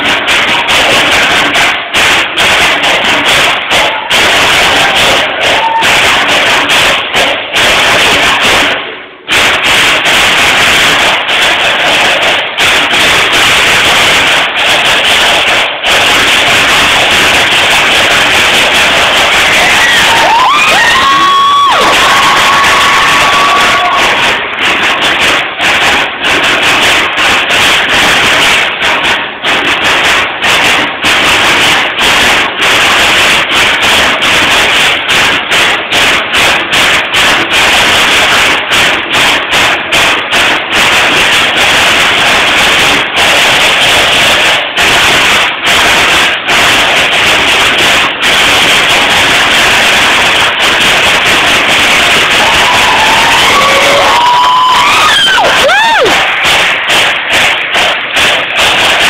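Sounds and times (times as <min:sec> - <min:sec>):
percussion ensemble drumming: 0:00.0 - 0:59.0.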